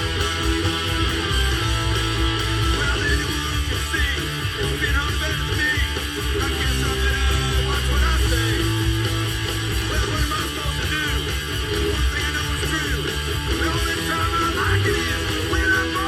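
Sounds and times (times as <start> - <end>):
bass guitar: 0.0 - 16.0
rock song with electric guitars: 0.0 - 16.0.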